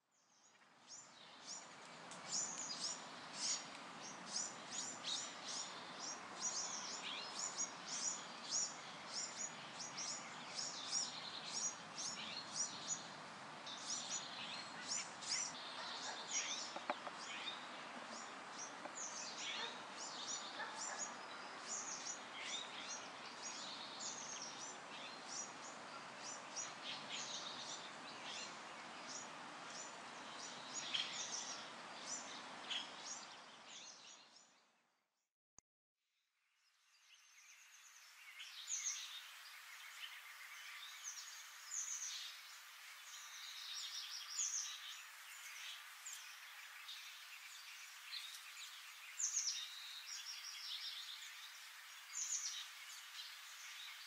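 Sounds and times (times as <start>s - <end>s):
steady background hiss: 0.1s - 34.2s, 36.6s - 54.0s
small birds chirping: 0.1s - 34.8s, 36.6s - 54.0s.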